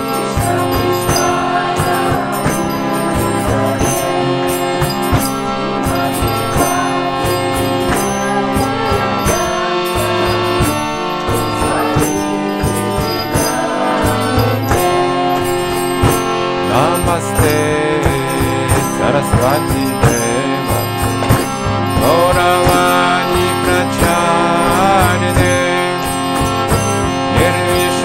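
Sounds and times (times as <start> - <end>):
drum beat: 0.0 - 28.0
sustained melodic tones: 0.0 - 28.0.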